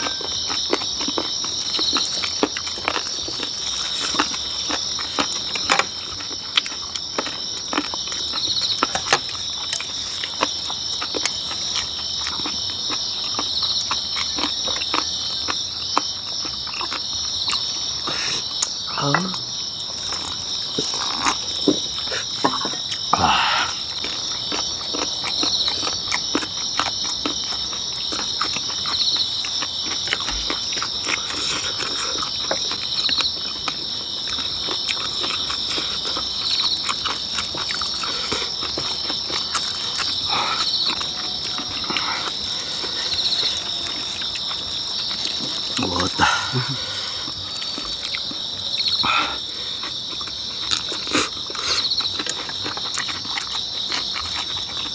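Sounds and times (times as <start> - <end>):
chewing: 0.0 - 54.9
insects trilling: 0.0 - 54.9.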